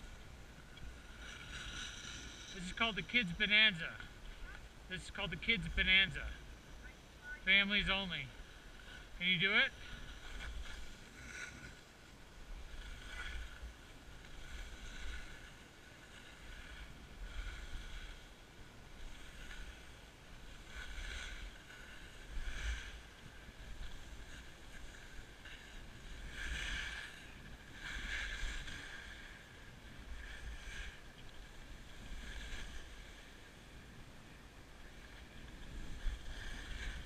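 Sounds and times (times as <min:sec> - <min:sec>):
skis scraping over packed snow: 0:00.0 - 0:37.0.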